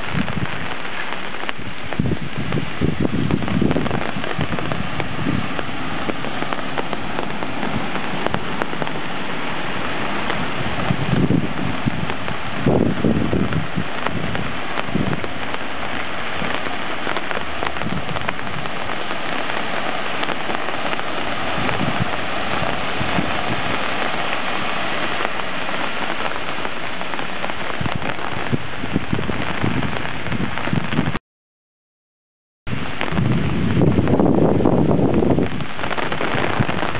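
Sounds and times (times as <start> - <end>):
heavy rain hissing: 0.0 - 31.2, 32.7 - 36.9.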